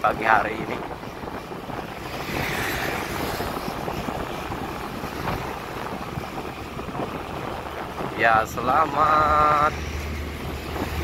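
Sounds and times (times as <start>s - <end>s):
tyre noise on road: 0.0s - 11.0s
wind rush on microphone: 0.0s - 11.0s.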